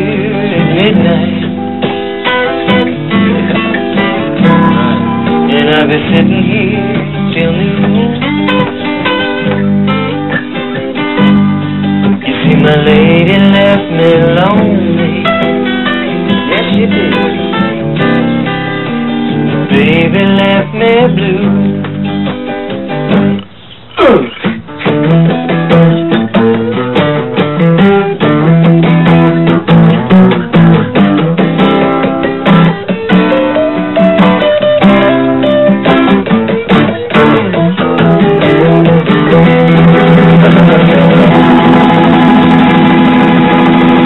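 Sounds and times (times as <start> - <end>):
acoustic guitar picking country tune: 0.0 - 44.0.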